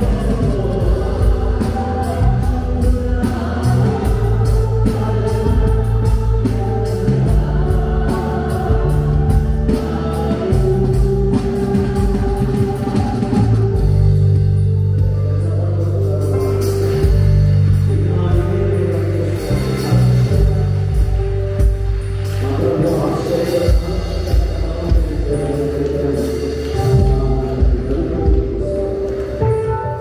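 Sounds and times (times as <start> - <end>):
steady drum beat: 0.0 - 29.6
held low bass notes: 0.0 - 30.0.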